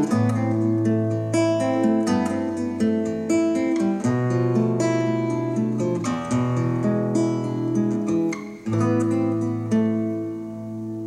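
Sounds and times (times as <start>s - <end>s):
acoustic guitars playing: 0.0s - 11.0s.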